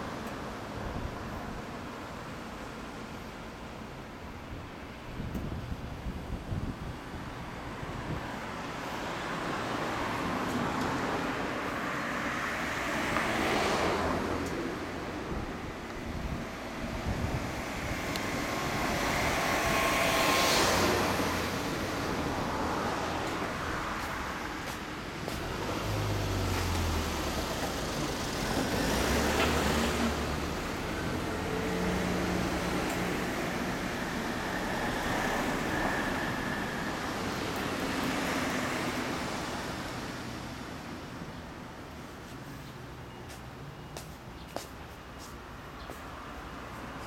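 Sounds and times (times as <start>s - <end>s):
vehicles passing by: 0.0s - 47.0s.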